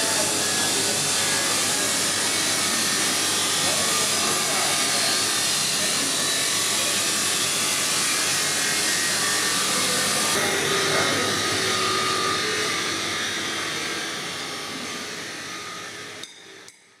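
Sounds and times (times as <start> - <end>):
small motor whirring with hiss: 0.0 - 16.7.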